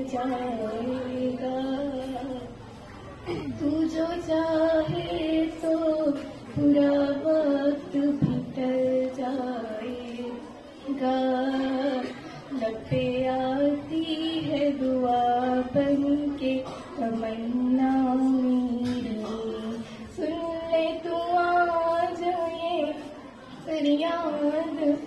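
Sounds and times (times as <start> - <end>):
girl singing into microphone: 0.0 - 25.0.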